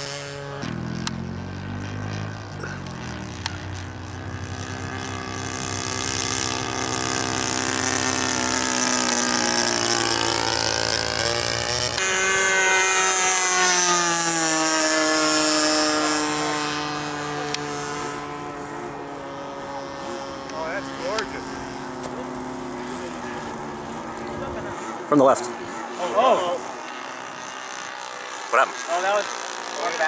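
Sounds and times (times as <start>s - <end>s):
model plane engine and propeller: 0.0s - 30.0s.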